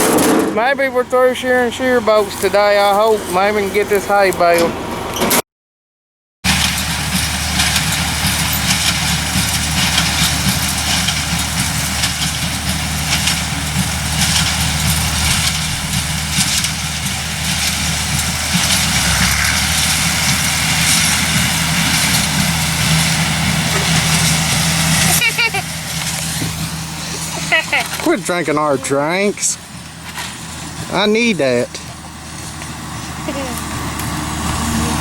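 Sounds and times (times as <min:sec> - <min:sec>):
heavy engine running steadily: 0:00.0 - 0:05.4, 0:06.5 - 0:35.0.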